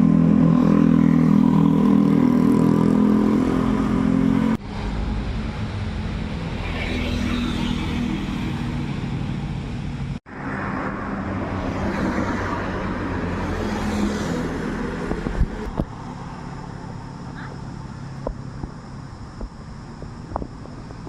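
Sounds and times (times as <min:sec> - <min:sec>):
vehicles passing by: 0:00.0 - 0:21.0.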